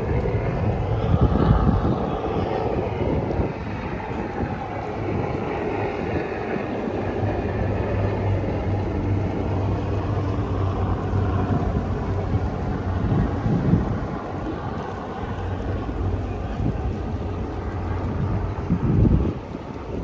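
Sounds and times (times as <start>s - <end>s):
low engine hum: 0.0s - 20.0s
outdoor noise: 0.0s - 20.0s.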